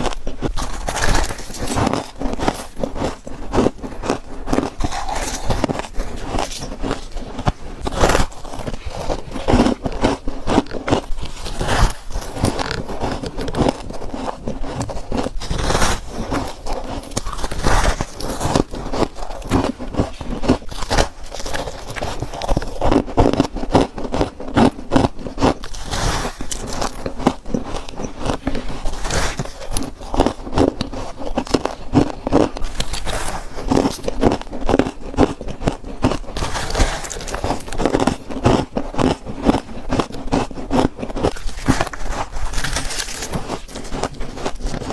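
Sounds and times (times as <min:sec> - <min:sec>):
chewing crunchy frost: 0:00.0 - 0:44.9.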